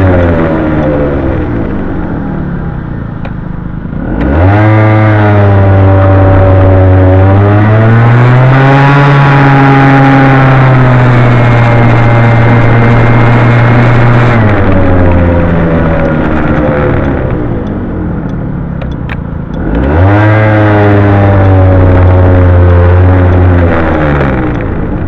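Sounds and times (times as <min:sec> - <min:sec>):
scooter engine revving: 0:00.0 - 0:25.0.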